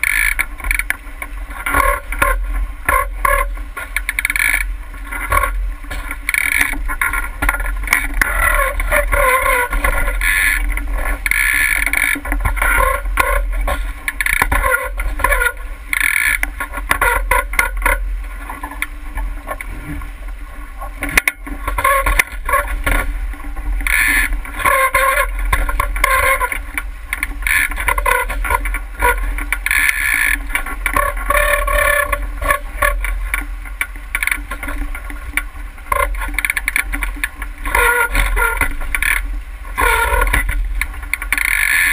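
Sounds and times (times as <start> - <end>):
water splashing along hull: 0.0 - 41.9.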